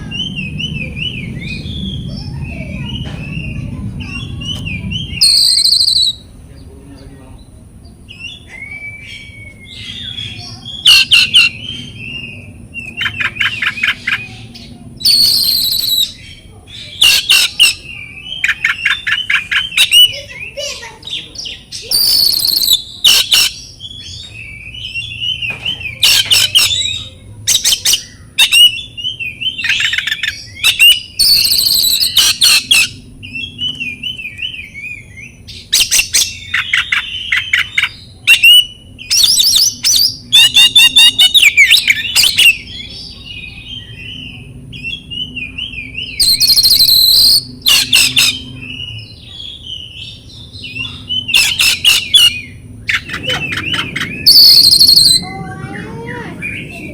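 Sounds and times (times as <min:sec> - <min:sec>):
bird singing: 0:00.0 - 0:56.9.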